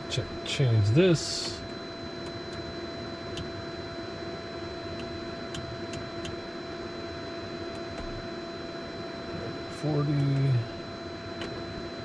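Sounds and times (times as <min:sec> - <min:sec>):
avionics and cooling fans humming: 0:00.0 - 0:12.0.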